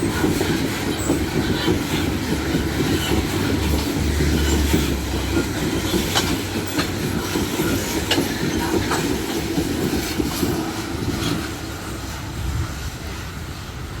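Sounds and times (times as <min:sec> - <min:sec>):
wheels clacking over rail joints: 0:00.0 - 0:12.7
steel wheels rumbling on rail: 0:00.0 - 0:14.0.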